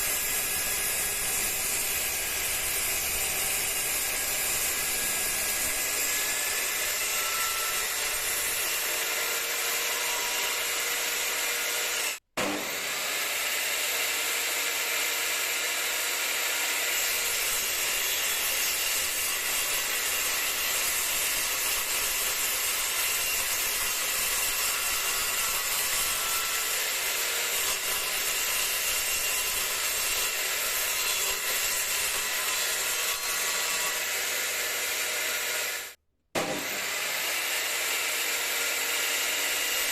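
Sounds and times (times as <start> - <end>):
table saw sawing wood: 0.0 - 39.9.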